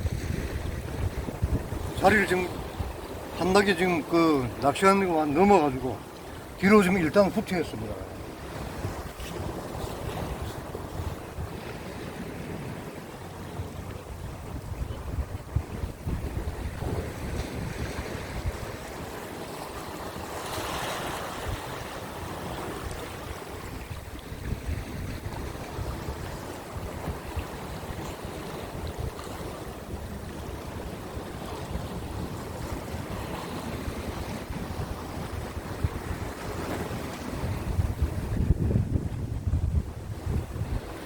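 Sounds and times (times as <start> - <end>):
sea surf against rocks: 0.0 - 41.0
wind buffeting microphone: 0.0 - 41.0.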